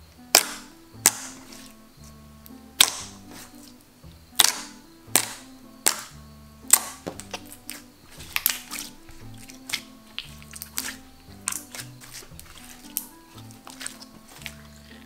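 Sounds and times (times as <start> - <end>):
slime popping and clicking: 0.3 - 1.7, 2.4 - 3.6, 4.4 - 15.0.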